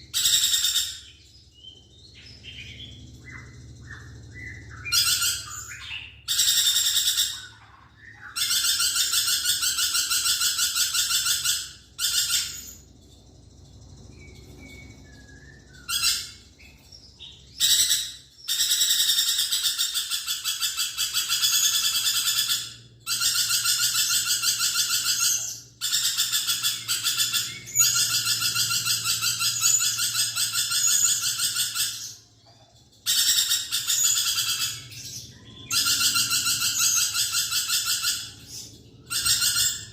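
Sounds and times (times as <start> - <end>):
lorikeet chattering: 0.0 - 39.9.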